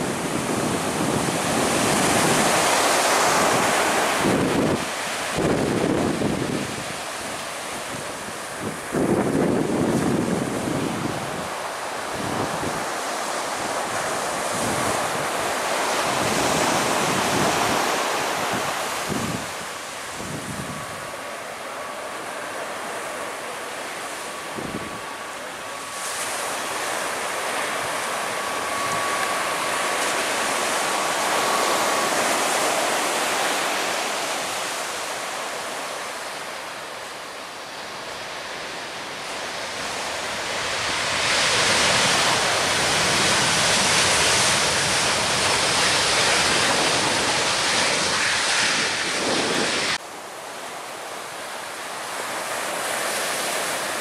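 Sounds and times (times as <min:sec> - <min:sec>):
wind on microphone: 0:00.0 - 0:21.3, 0:24.3 - 0:35.0, 0:37.8 - 0:50.0
jet airliner roar: 0:00.0 - 0:50.0
jet engine whine: 0:00.0 - 0:54.0
surf: 0:00.0 - 0:54.0.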